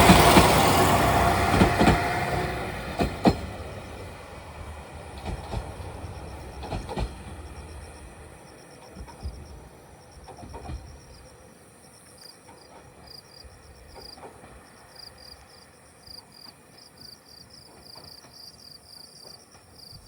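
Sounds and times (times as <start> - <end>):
train rumble: 0.0 - 20.0
crickets chirping: 0.1 - 20.0.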